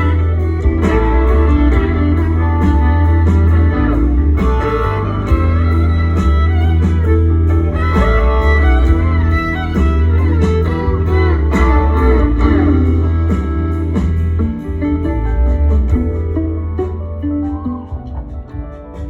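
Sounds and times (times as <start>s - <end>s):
bending lead guitar lines: 0.0s - 19.0s
heavy bass line: 0.0s - 19.0s
live band playing: 0.0s - 19.0s.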